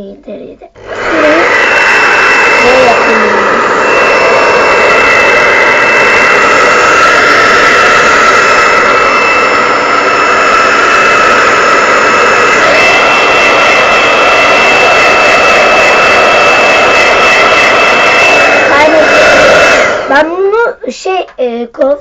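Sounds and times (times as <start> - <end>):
hair dryer blowing with whine: 0.8 - 20.7.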